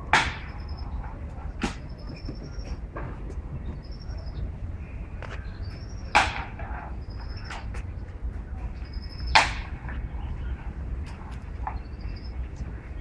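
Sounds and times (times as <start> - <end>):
loud sharp bird calls: 0.0 - 13.0.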